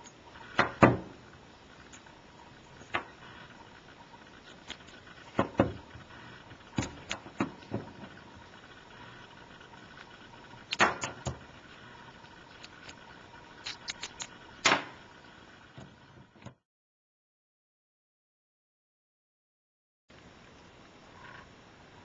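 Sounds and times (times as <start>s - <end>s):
faint steady hiss: 0.0s - 16.3s, 20.1s - 22.0s.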